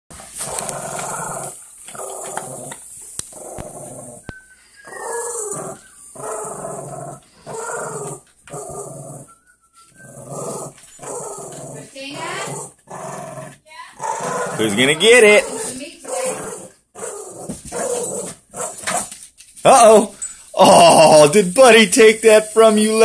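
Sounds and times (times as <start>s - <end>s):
dogs play-growling: 0.2s - 19.2s.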